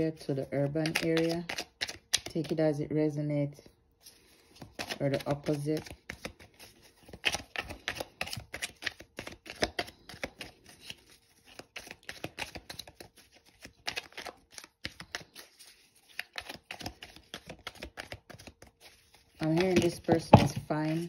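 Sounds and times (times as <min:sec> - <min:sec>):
cards being shuffled by hand: 0:00.0 - 0:02.7, 0:04.0 - 0:21.0.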